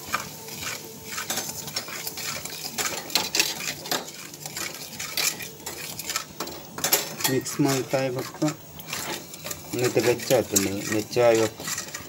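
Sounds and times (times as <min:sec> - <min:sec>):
spoon scraping a pan: 0:00.0 - 0:12.0.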